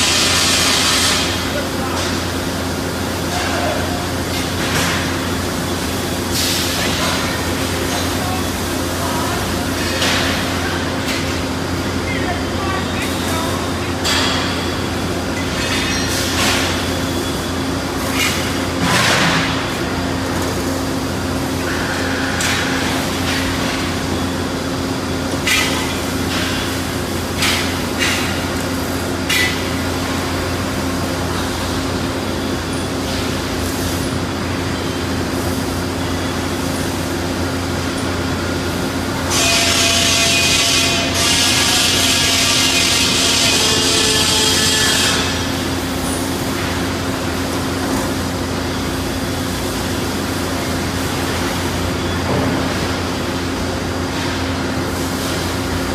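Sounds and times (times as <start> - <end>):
industrial machine hum: 0.0 - 55.9.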